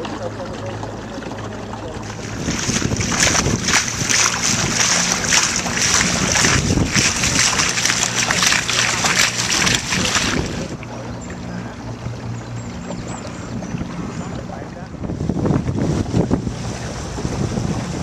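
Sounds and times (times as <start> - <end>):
boat motor hum: 0.0 - 18.0
water splashing along hull: 0.0 - 18.0.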